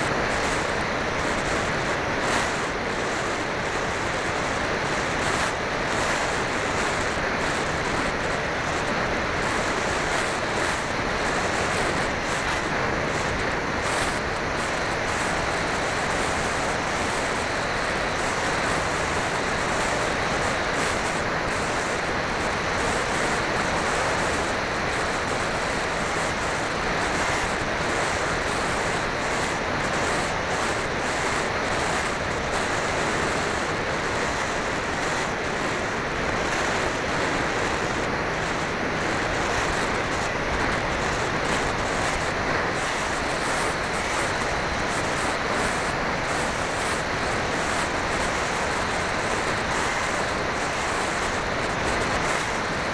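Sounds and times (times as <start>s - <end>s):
wind rushing on microphone: 0.0s - 52.9s.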